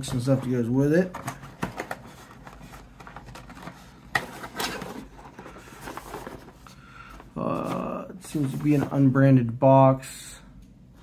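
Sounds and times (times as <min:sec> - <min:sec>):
cardboard and paper rustling: 0:00.0 - 0:09.2.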